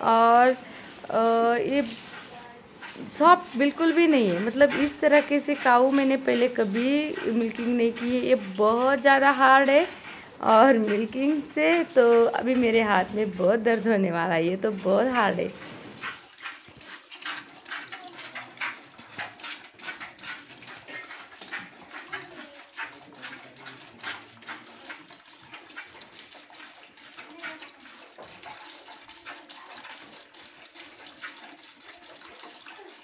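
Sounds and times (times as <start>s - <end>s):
milk squirting into plastic bucket: 0.0s - 33.0s.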